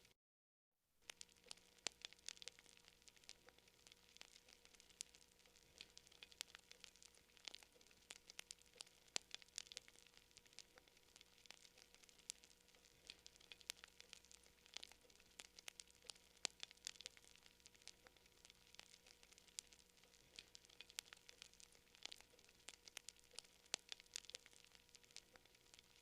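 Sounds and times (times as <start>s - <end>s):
campfire crackling: 1.0s - 26.0s
faint hiss: 1.0s - 26.0s.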